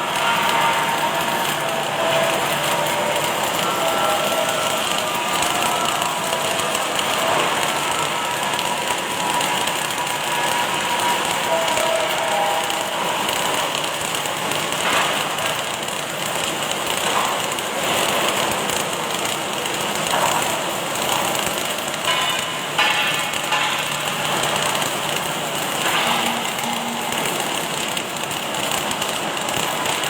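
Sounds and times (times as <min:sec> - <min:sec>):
industrial machine noise: 0:00.0 - 0:30.0
welding arc crackling hiss: 0:00.0 - 0:30.0.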